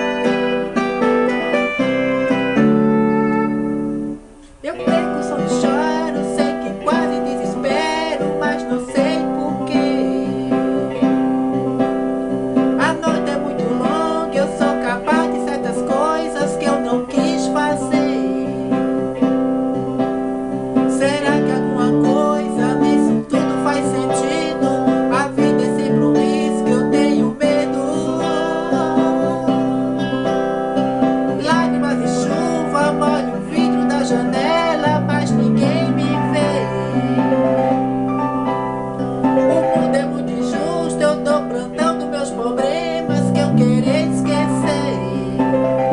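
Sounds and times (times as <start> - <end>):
guitar-led pop song: 0.0 - 45.9.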